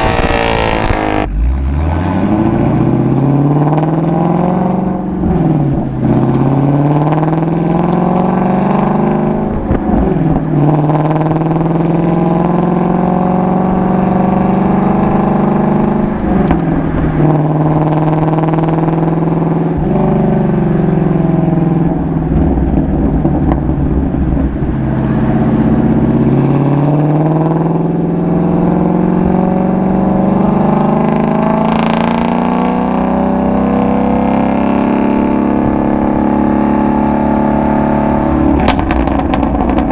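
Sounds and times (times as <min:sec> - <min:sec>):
car engine revving with gear changes: 0:00.0 - 0:39.9.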